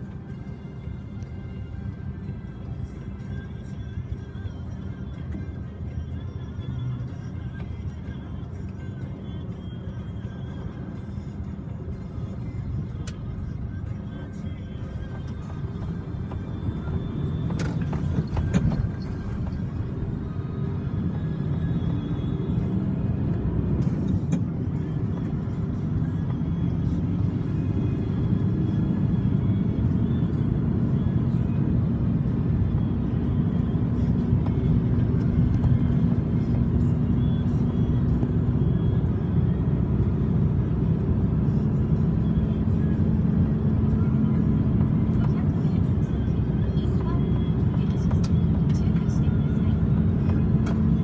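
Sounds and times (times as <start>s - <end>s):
road noise: 0.0s - 51.0s
truck diesel engine running: 0.0s - 51.0s.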